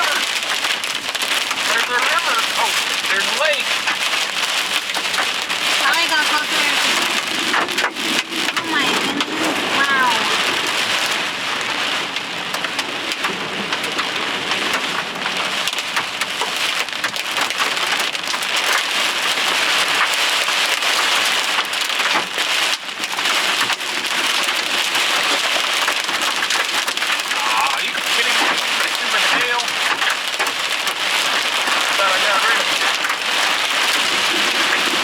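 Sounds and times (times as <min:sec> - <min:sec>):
heavy rain on a vehicle: 0:00.0 - 0:35.0.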